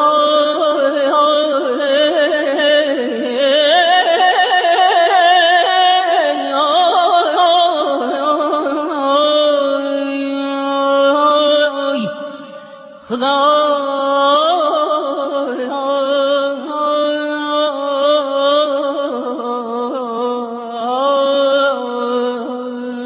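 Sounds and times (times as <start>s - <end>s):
person singing with trills: 0.0s - 23.0s.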